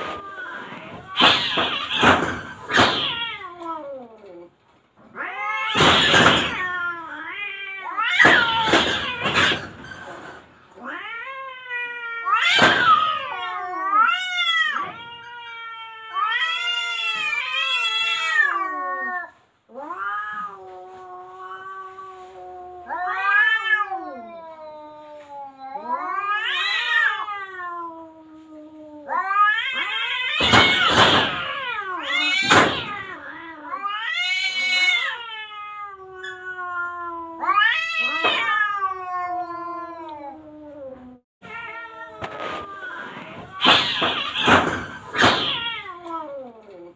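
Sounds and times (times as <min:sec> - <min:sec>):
cats hissing: 0:00.0 - 0:46.9
cats yowling: 0:00.0 - 0:46.9.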